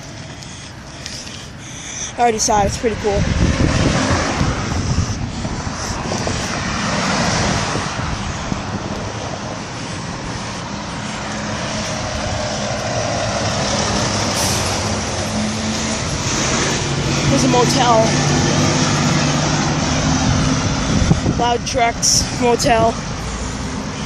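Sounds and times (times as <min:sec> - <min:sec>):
low engine hum: 0:00.0 - 0:24.0
steady rushing noise: 0:00.0 - 0:24.0
truck running close by: 0:00.0 - 0:24.0.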